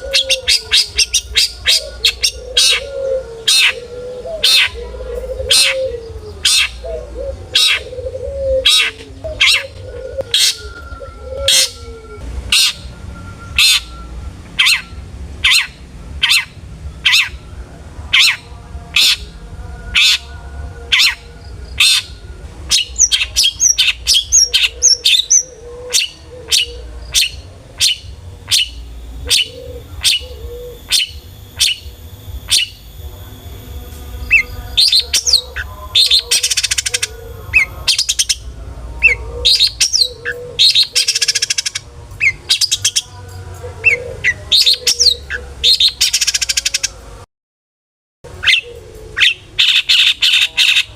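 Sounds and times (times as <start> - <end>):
shrike singing short calls: 0.0 - 11.9, 12.5 - 47.0
low hum: 0.0 - 46.1.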